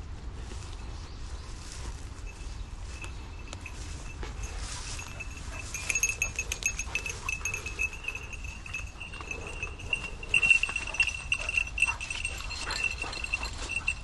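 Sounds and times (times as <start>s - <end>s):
footsteps on a trail: 0.0s - 14.0s
small bell jingling: 2.2s - 14.0s.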